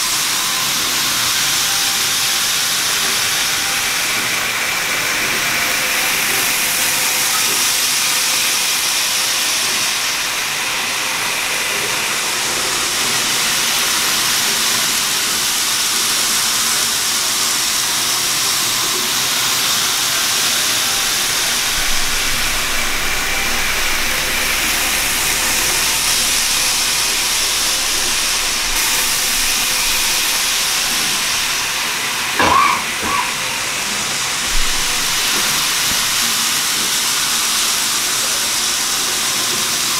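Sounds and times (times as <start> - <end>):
model trains hissing on track: 0.0 - 39.9.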